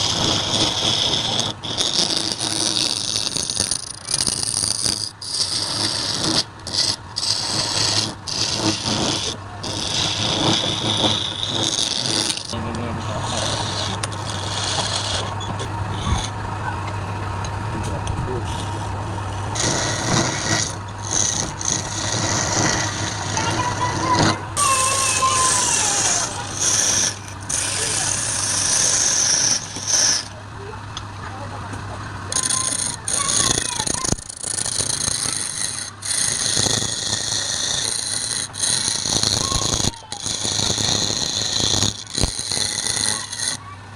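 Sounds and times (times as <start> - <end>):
tool scraping wood on lathe: 0.0 - 43.8
low hum of lathe: 0.0 - 43.9.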